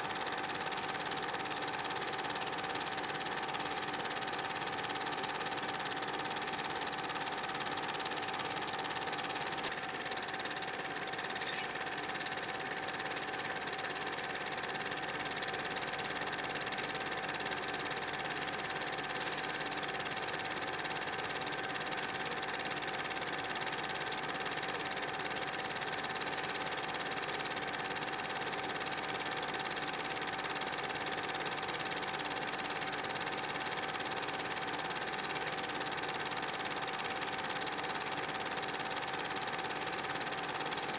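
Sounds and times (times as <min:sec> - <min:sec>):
film projector humming: 0:00.0 - 0:40.9.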